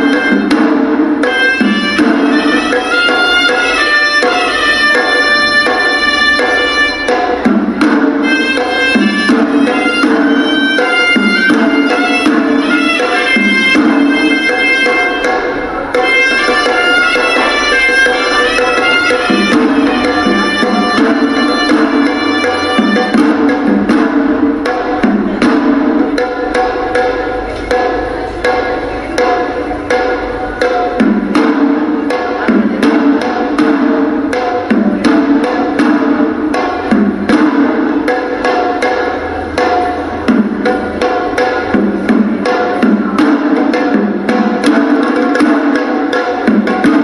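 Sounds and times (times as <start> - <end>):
rapid drumming: 0.0 - 47.0
shawm reedy melody: 0.0 - 47.0.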